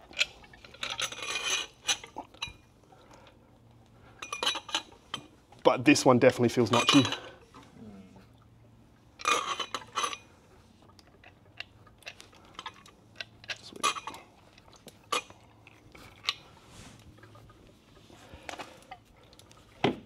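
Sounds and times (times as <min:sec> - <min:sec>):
faint low hum: 0:00.2 - 0:19.8.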